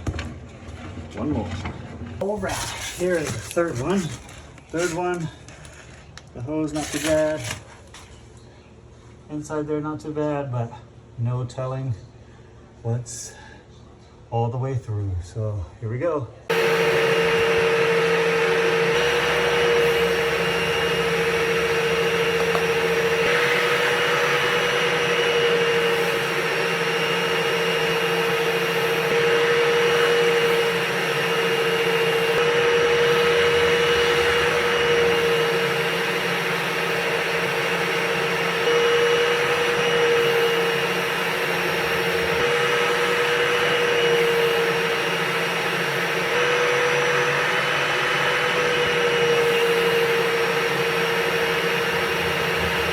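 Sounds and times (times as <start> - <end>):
vent cleaning machine whining: 2.2 - 8.2, 16.5 - 52.9.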